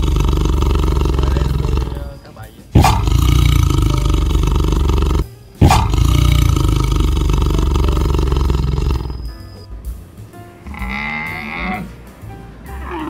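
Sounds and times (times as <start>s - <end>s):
tiger roaring: 0.0s - 9.4s, 10.6s - 12.1s, 12.7s - 13.0s.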